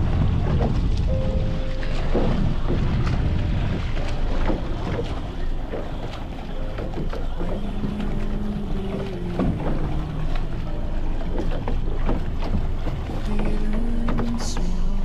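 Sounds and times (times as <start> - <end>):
wind buffeting microphone: 0.0 - 14.6
boat engine: 0.0 - 15.0
water slapping and splashing: 0.0 - 15.0.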